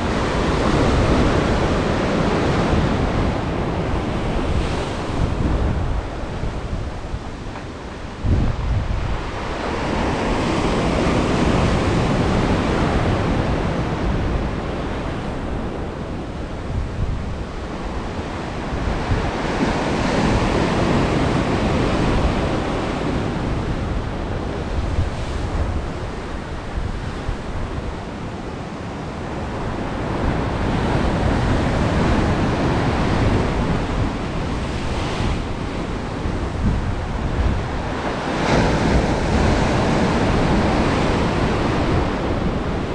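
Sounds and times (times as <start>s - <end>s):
ocean surf washing ashore: 0.0s - 42.9s
wind buffeting microphone: 0.0s - 42.9s.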